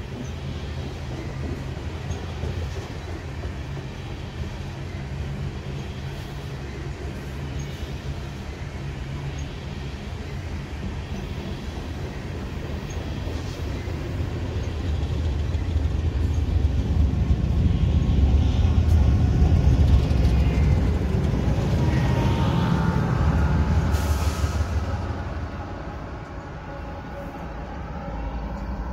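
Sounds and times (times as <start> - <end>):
diesel locomotive engines: 0.0 - 28.9
train wheels rumbling on rail: 0.0 - 28.9.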